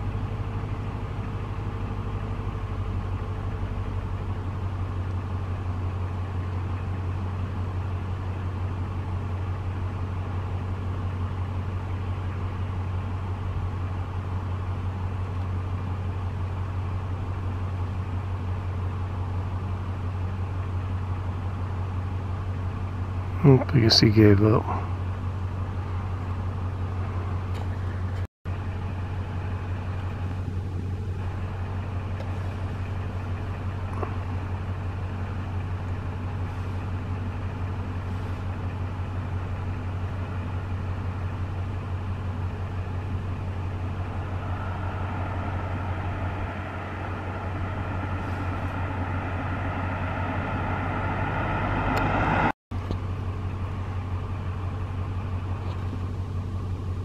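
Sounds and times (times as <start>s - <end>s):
engine low hum: 0.0s - 57.0s
higher engine sound: 0.0s - 57.0s.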